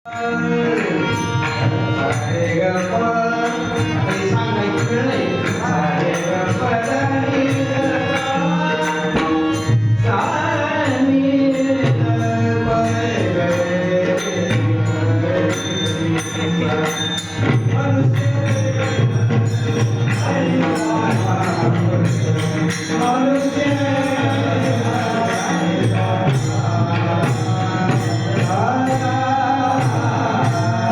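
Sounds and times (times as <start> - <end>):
man singing devotional melody: 0.0 - 30.9
percussion steady beat: 0.0 - 30.9
sustained instrumental accompaniment: 0.1 - 30.9.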